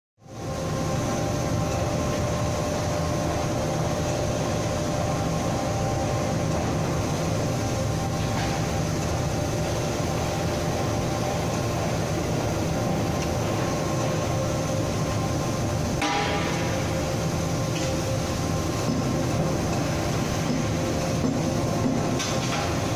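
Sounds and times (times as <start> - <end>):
forging machinery hum: 0.2 - 22.9
steady machine tones: 0.2 - 22.9.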